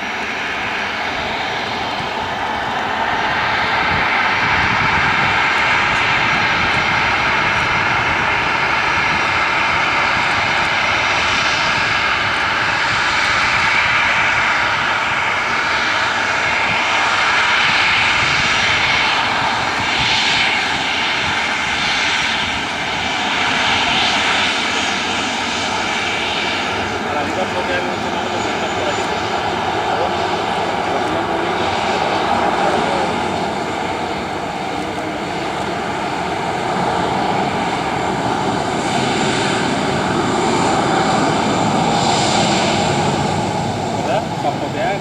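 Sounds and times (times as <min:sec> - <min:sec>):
jet engines at takeoff: 0:00.0 - 0:45.0.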